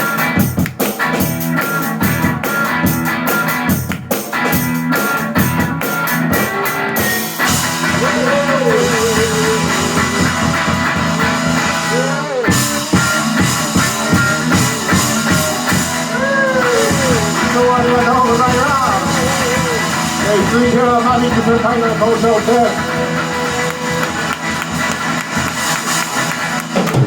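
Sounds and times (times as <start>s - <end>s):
drums: 0.0s - 27.0s
electric guitar: 0.0s - 27.0s.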